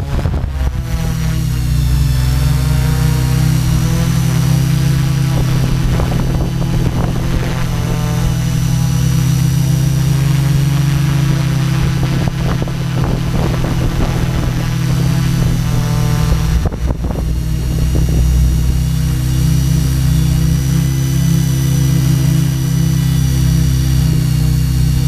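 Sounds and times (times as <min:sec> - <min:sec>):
drone motors humming: 0:00.0 - 0:25.0
high whine: 0:00.0 - 0:25.0.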